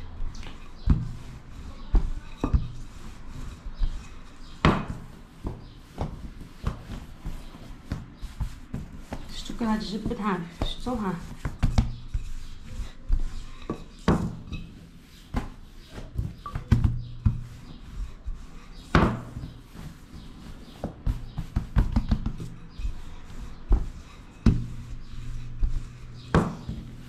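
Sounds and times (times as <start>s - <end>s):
rolling pin rolling dough: 0.0s - 27.0s.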